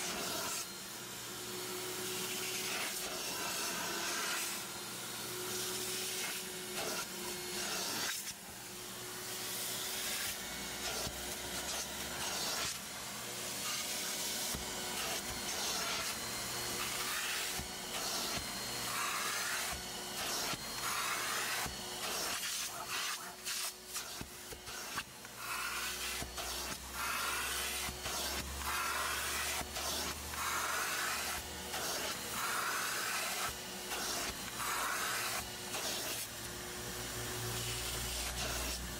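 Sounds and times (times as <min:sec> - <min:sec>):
carpet extractor motor whine: 0:00.0 - 0:38.9.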